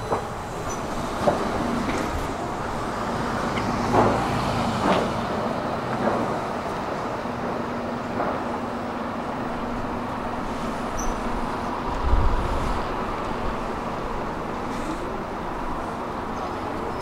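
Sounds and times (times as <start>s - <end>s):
metro train rumbling on tracks: 0.0s - 17.0s
traffic noise: 0.0s - 17.0s.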